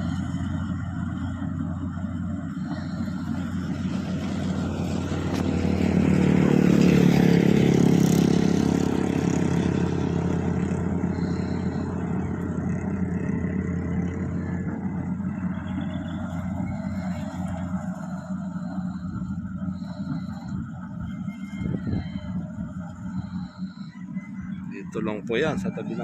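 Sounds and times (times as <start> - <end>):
vehicle engine passing: 0.0 - 26.0
vehicle engine running: 0.0 - 26.0.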